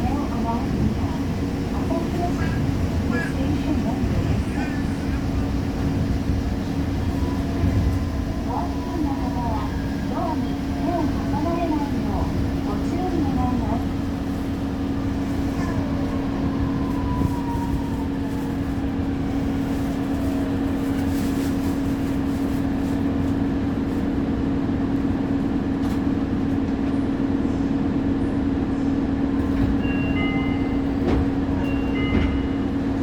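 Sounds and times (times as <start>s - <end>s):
monorail train humming and whining: 0.0s - 33.0s.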